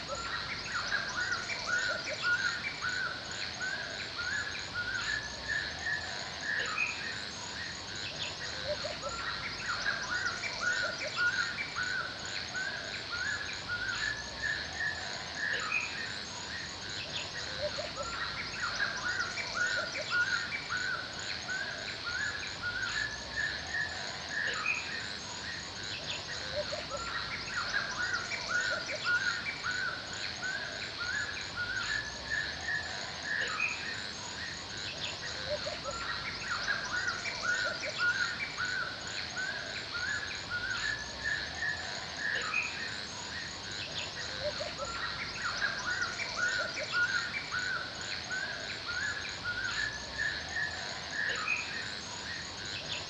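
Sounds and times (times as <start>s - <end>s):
high insect drone: 0.0s - 53.0s
small birds chirping: 0.0s - 53.0s.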